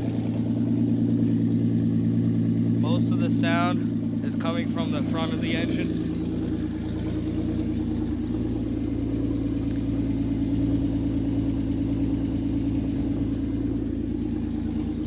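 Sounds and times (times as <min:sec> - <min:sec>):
car engine idling loudly: 0:00.0 - 0:15.0.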